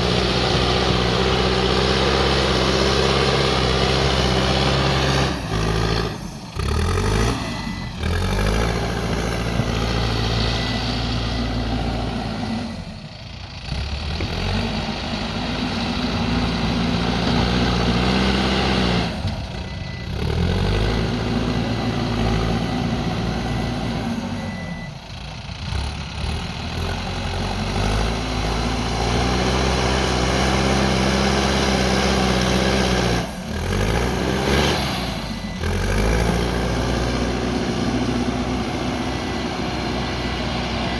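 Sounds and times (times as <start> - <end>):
diesel engine working under load: 0.0 - 40.9.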